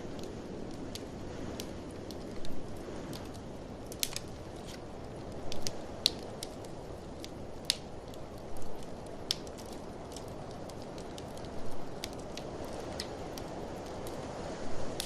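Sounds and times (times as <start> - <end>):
blizzard wind rushing: 0.0 - 15.0
wood fire crackling: 0.0 - 15.0.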